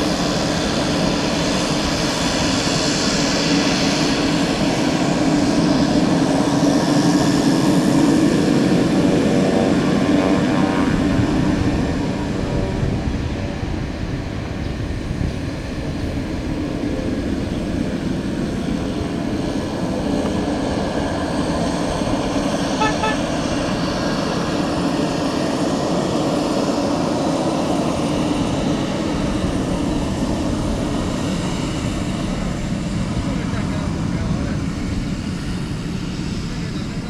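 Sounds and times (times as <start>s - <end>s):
turboprop engine running: 0.0s - 37.0s.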